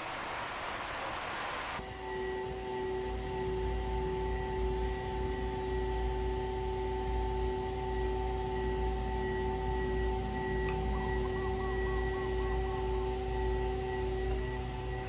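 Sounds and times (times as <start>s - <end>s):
machine drone with constant tones: 0.0s - 15.0s.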